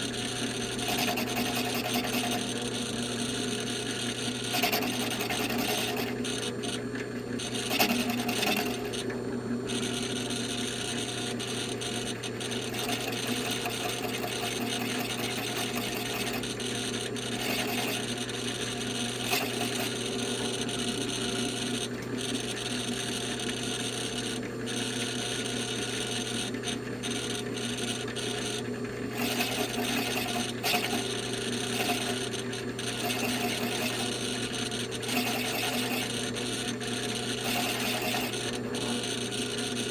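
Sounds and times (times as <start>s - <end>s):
drill motor hum: 0.0s - 39.9s.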